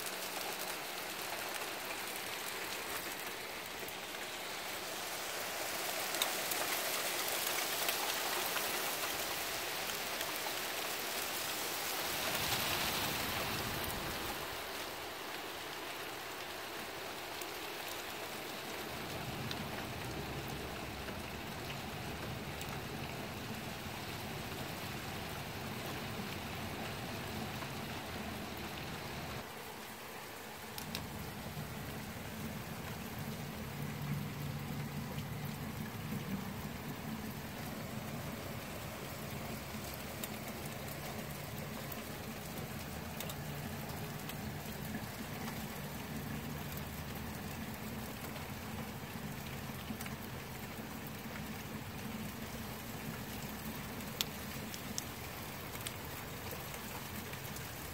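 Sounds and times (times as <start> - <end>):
hail pattering: 0.0 - 25.0, 30.4 - 48.6, 49.2 - 57.9.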